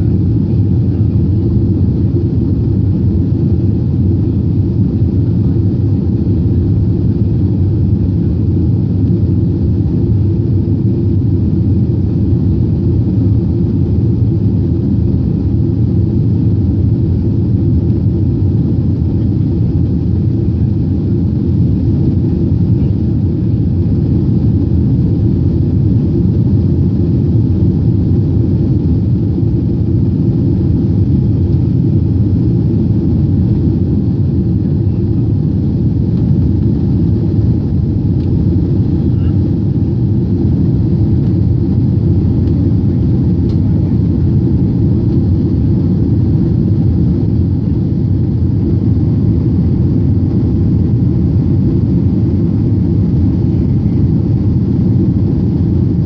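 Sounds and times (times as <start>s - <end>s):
jet engines and airflow rumble: 0.0s - 56.0s.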